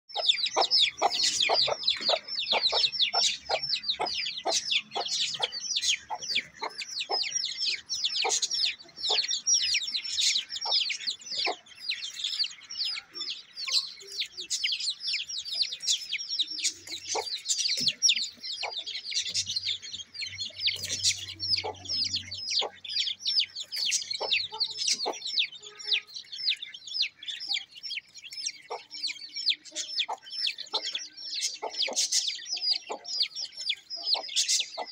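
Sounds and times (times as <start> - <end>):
chick peeping rapidly: 0.1 - 34.9.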